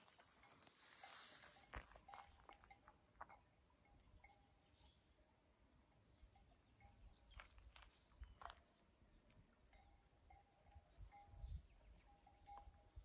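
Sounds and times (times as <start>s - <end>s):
faint birdsong: 0.0s - 1.8s, 3.3s - 13.0s.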